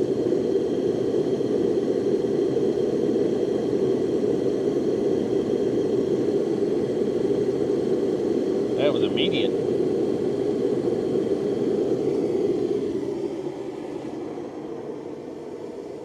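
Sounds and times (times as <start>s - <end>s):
propane heater fan and flame: 0.0s - 16.0s.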